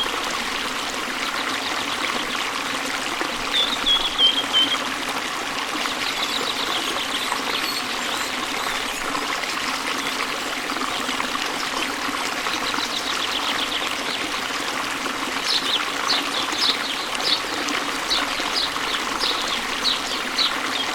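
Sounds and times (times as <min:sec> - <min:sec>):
water trickling and splashing: 0:00.0 - 0:20.9.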